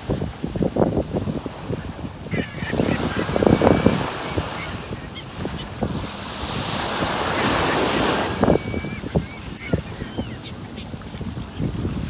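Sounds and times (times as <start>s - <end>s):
waves washing in: 0.0s - 12.0s
wind buffeting microphone: 0.0s - 12.0s.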